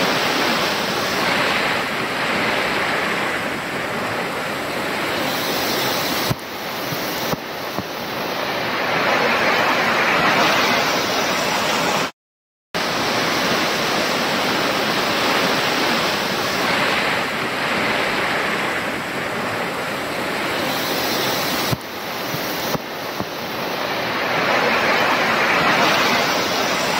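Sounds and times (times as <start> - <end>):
torrential rain on a pond: 0.0 - 12.1, 12.8 - 26.9.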